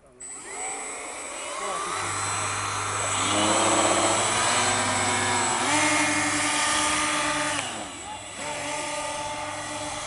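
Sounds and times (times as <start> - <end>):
model hovercraft fan whine: 0.0 - 10.0.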